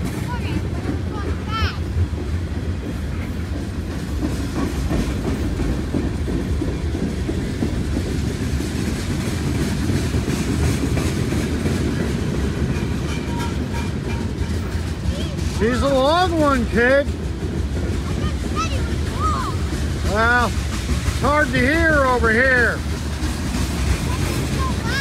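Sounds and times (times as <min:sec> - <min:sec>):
freight train rumbling past: 0:00.0 - 0:25.0
wheels clacking over rail joints: 0:00.0 - 0:25.0.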